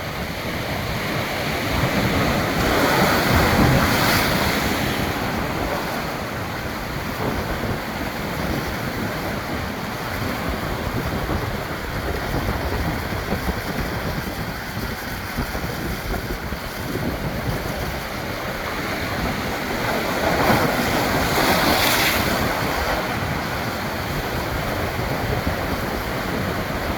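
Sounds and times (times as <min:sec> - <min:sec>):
ocean surf washing onto shore: 0:00.0 - 0:26.9
wave breaking: 0:00.0 - 0:26.9
wind buffeting microphone: 0:00.0 - 0:26.9.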